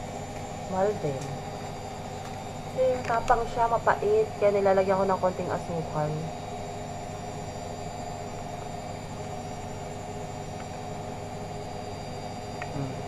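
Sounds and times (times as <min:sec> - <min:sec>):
appliance machine hum: 0:00.0 - 0:13.0.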